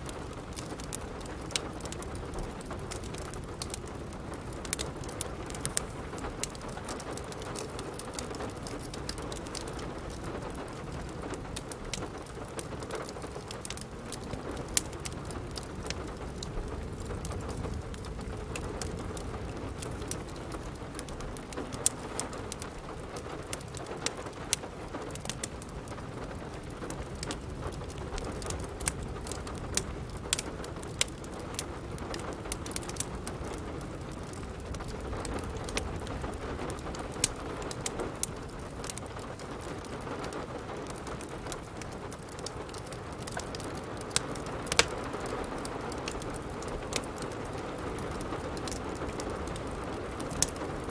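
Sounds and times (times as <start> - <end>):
steady rain: 0.0 - 50.9
wood fire crackling: 0.0 - 50.9.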